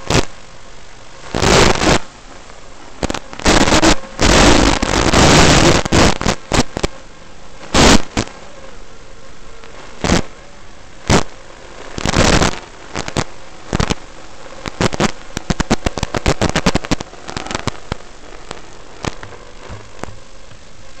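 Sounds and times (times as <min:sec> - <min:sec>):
static crackling bursts: 0:00.0 - 0:21.0
video link hiss: 0:00.0 - 0:21.0.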